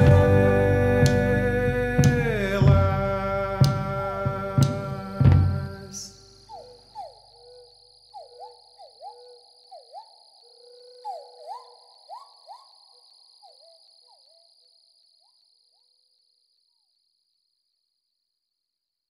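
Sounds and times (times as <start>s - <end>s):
high insect drone: 0.0s - 17.6s.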